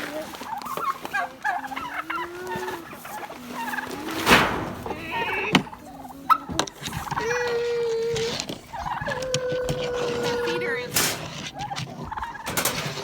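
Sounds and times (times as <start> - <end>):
turkeys calling: 0.0 - 13.0.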